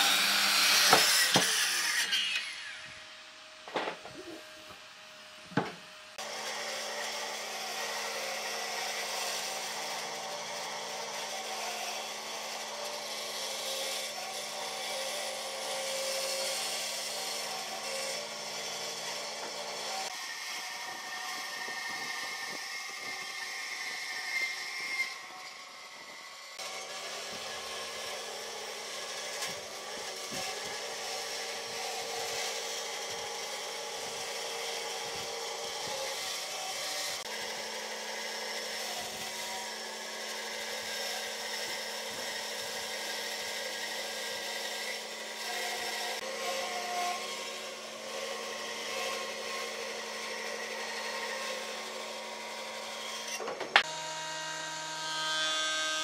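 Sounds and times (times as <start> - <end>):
bandsaw cutting wood: 0.0 - 56.0
jointer planing wood: 0.0 - 56.0.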